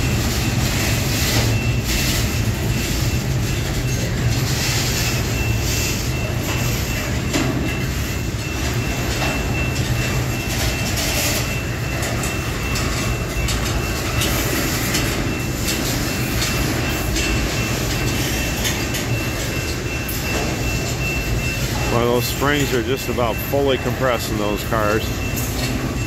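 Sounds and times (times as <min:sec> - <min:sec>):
wheels clicking on rails: 0:00.0 - 0:26.0.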